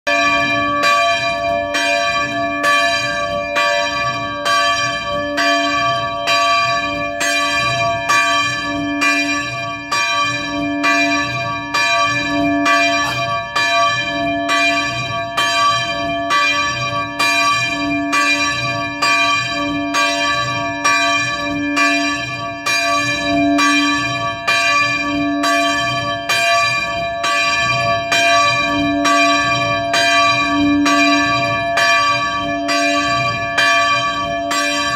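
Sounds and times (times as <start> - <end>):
church bell ringing: 0.1 - 34.9.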